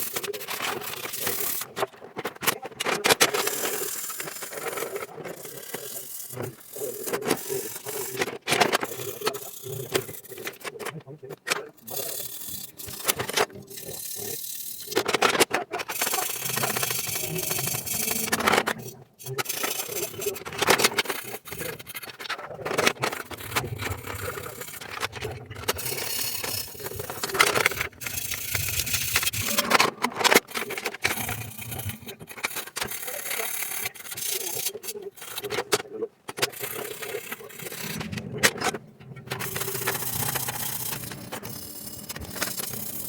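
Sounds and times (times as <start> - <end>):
hands rubbing and scraping: 0.0 - 43.0.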